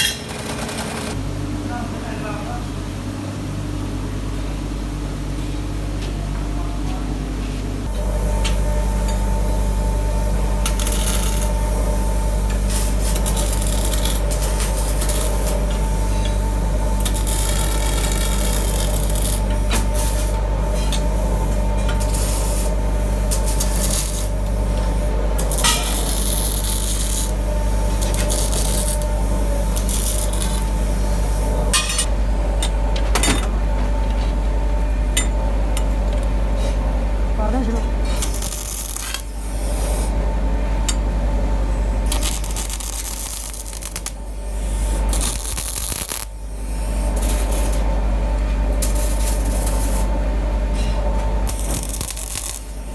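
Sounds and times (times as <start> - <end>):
electric workshop machine humming: 0.0 - 52.9.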